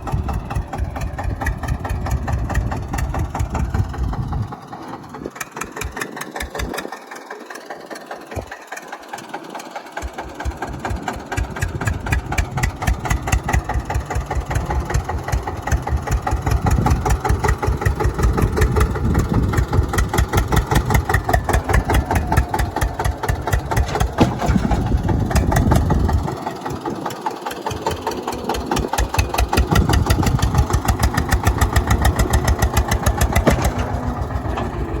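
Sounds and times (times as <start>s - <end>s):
tractor diesel engine chugging: 0.0s - 35.0s.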